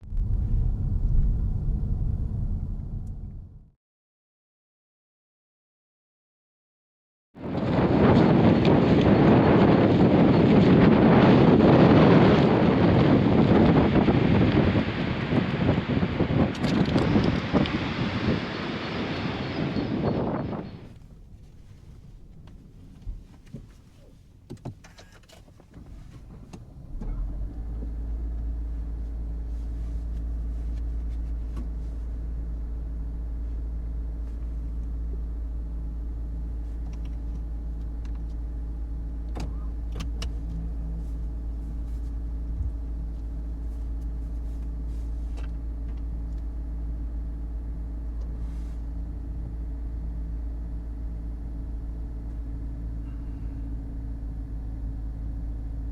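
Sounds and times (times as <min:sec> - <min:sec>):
car engine starting and humming: 0:00.0 - 0:03.7, 0:07.4 - 0:55.9.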